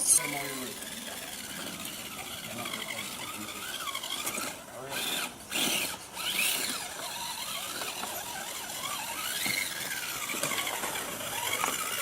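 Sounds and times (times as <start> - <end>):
electric motor and gearbox whining: 0.0 - 12.0.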